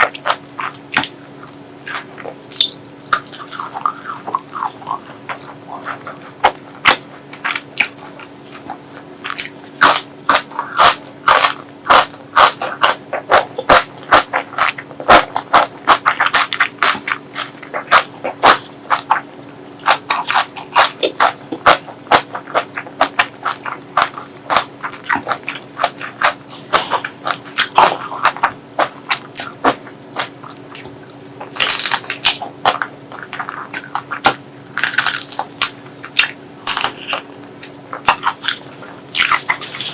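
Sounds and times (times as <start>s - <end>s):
food being chewed: 0.0s - 39.9s.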